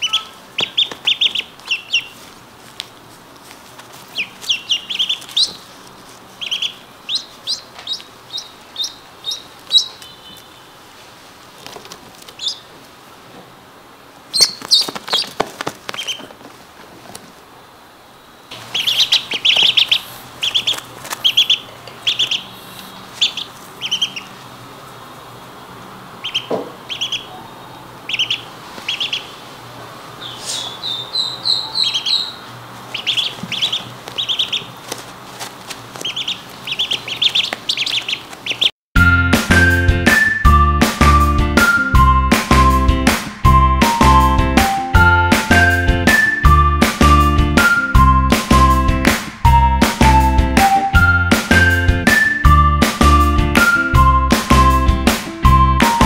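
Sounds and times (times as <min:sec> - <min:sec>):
ducklings peeping: 0:00.0 - 0:02.4, 0:03.9 - 0:10.8, 0:11.6 - 0:12.8, 0:14.2 - 0:16.5, 0:18.5 - 0:56.0.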